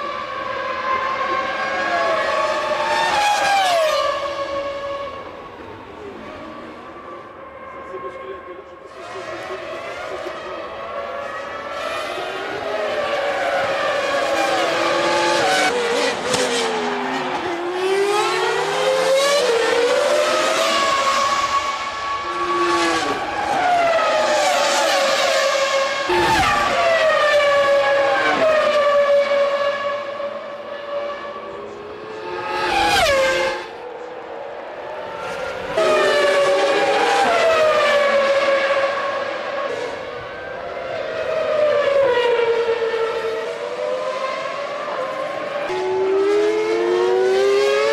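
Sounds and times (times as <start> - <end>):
racing cars passing at high revs: 0.0 - 47.9.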